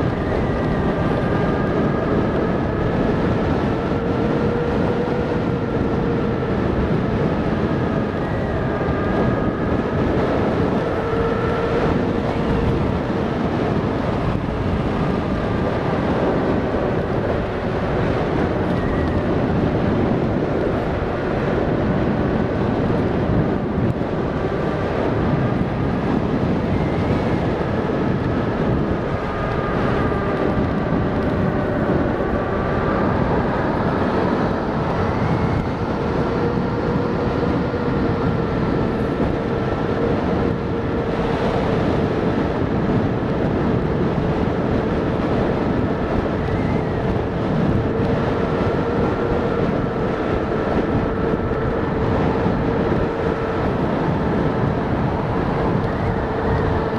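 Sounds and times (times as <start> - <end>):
electric motor whine: 0.0 - 56.9
wind rushing over microphone: 0.0 - 56.9.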